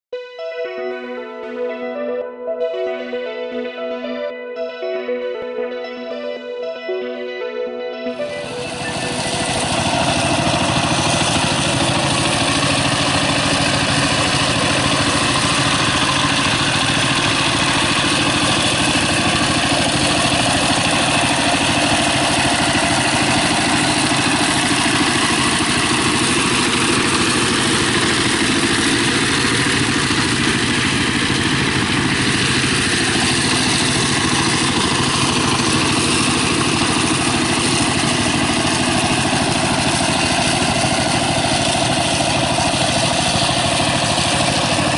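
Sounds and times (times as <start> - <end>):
diesel tractor engine running: 7.9 - 44.9.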